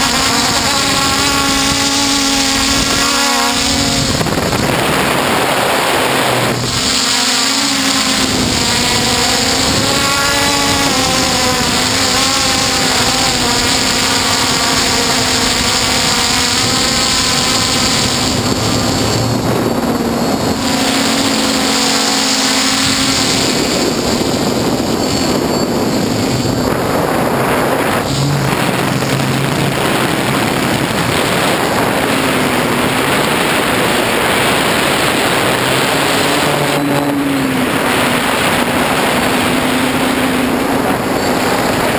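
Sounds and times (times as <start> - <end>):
drone motors whining: 0.0 - 41.9.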